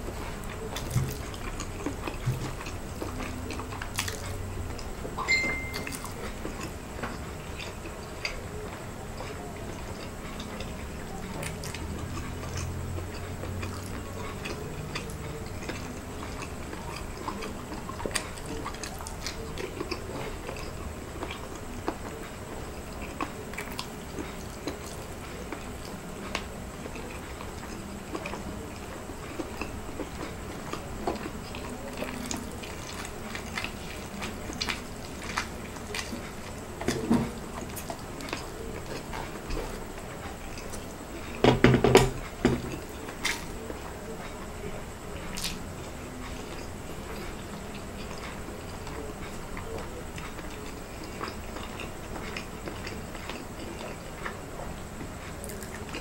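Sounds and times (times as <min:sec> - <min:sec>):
person chewing with lip smacks: 0:00.1 - 0:04.9, 0:05.6 - 0:41.4, 0:42.2 - 0:44.5, 0:45.2 - 0:56.0.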